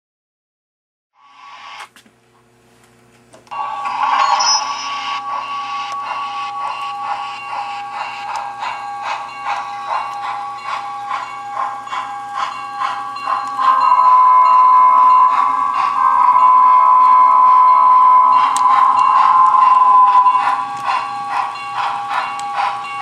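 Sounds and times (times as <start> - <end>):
model locomotive bell ringing: 3.5 - 23.0.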